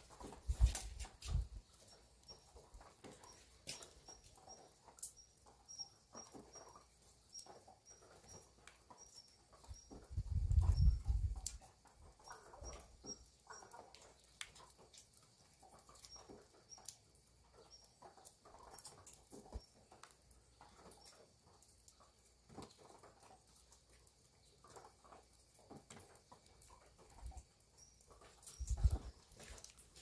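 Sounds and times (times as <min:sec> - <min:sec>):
small bird chirping: 0:00.2 - 0:30.0.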